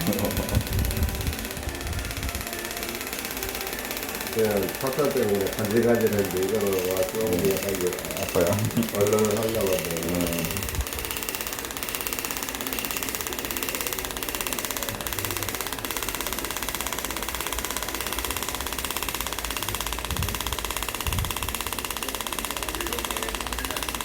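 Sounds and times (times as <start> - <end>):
tattoo machine buzzing: 0.0 - 24.0.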